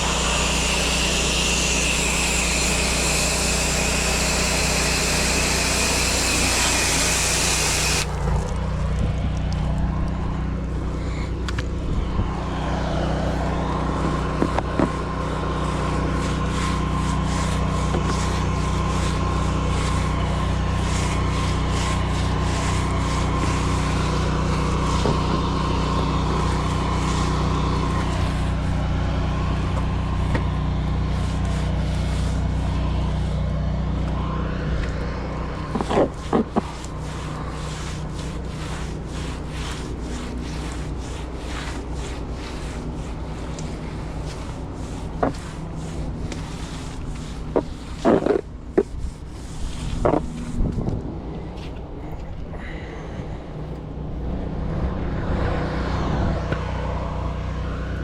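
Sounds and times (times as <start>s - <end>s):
pressure washer engine running: 0.0s - 49.9s, 54.6s - 58.0s.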